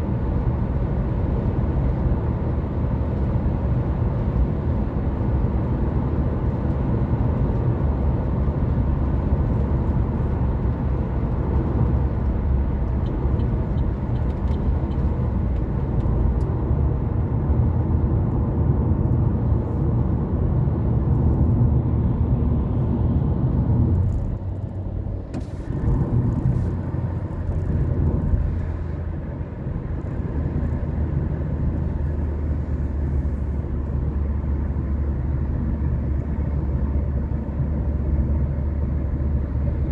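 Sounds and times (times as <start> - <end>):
car engine drone: 0.0 - 39.9
tyre and road noise: 2.1 - 39.9.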